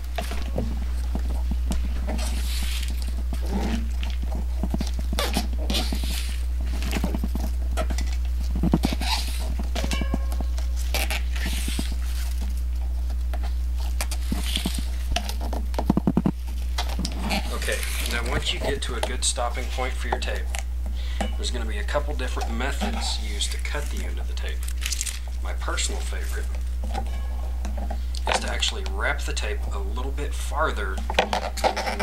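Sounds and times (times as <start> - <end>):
handlebar tape rustling and rubbing: 0.0 - 32.0
steady low hum: 0.0 - 32.0.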